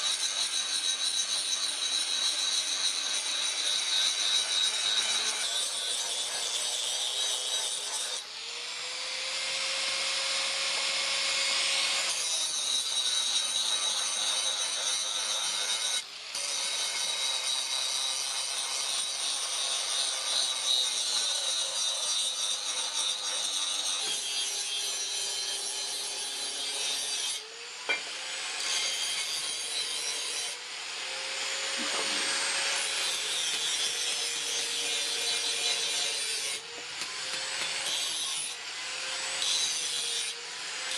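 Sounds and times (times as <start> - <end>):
power grinder on steel: 0.0 - 40.9.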